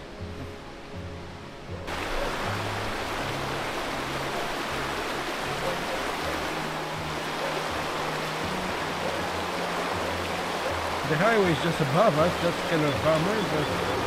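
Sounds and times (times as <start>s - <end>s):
creek rushing over rocks: 1.9s - 14.0s.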